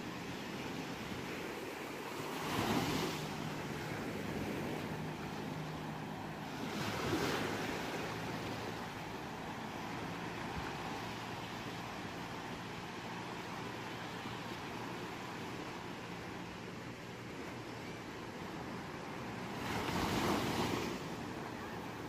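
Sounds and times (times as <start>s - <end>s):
steady wash of surf: 0.0s - 22.0s
waves breaking on shore: 0.0s - 22.0s.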